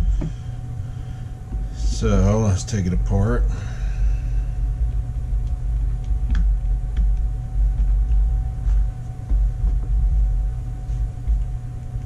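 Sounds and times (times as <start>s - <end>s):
faint steady hum: 0.0s - 12.0s
steady low rumble: 0.0s - 12.0s.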